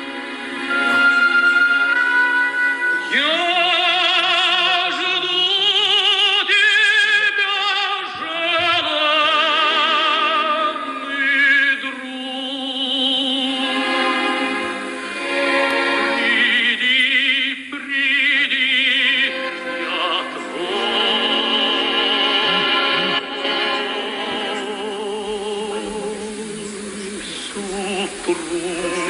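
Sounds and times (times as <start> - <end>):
operatic singing: 0.0 - 29.0.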